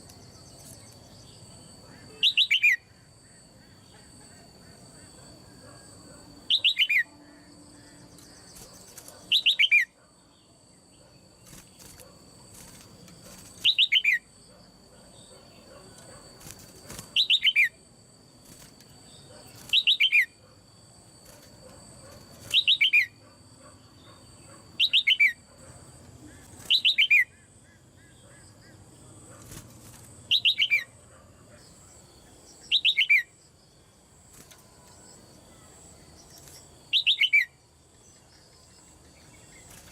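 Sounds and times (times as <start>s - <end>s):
faint high whine: 0.0s - 39.9s.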